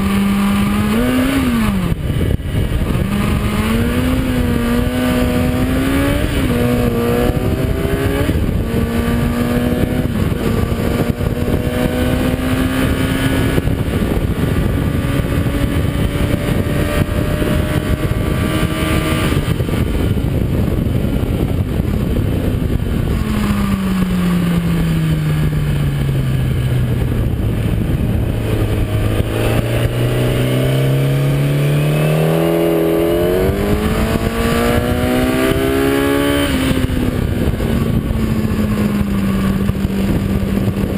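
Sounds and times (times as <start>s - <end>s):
heavy wind rush: 0.0s - 40.9s
motorcycle engine revving: 0.0s - 40.9s.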